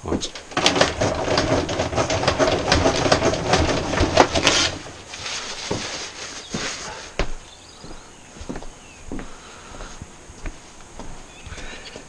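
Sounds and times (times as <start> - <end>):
footsteps on wooden decking: 0.0 - 12.0.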